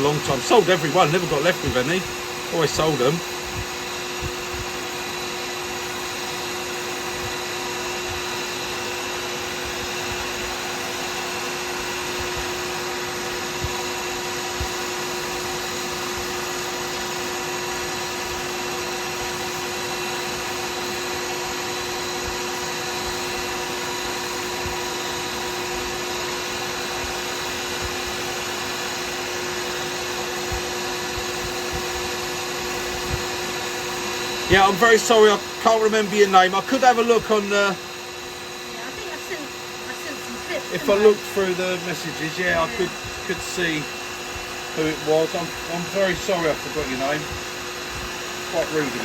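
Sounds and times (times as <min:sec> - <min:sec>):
lathe motor humming and whining: 0:00.0 - 0:49.0.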